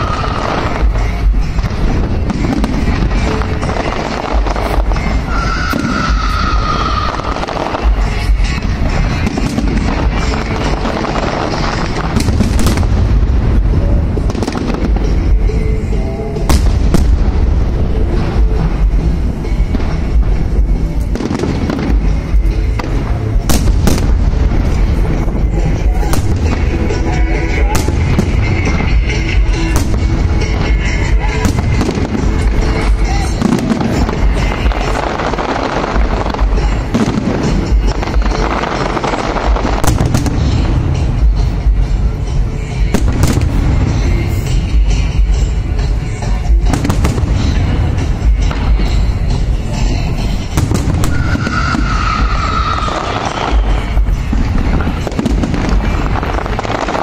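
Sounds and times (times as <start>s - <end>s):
sharp firework bangs: 0.0s - 15.6s, 16.4s - 41.7s, 46.6s - 57.0s
fireworks bursting and crackling: 0.0s - 57.0s
music playing: 0.0s - 57.0s.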